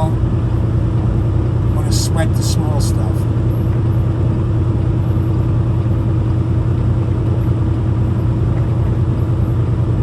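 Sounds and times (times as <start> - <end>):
faint constant hum: 0.0 - 10.0
truck engine and road drone: 0.0 - 10.0.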